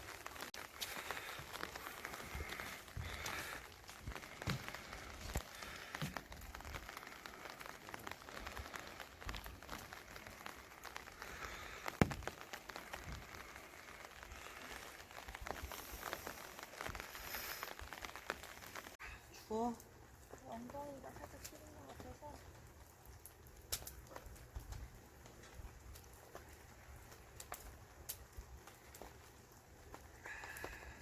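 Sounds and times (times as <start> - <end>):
raindrops tapping on a surface: 0.0 - 31.0.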